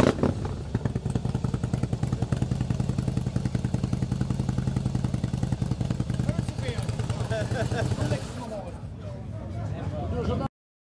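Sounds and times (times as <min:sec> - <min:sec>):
motorcycle engine idling: 0:00.0 - 0:08.9.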